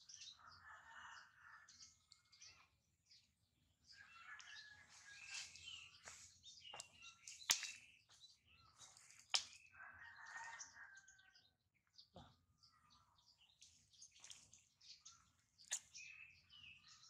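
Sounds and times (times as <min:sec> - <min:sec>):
faint small birds chirping: 0:00.0 - 0:17.0.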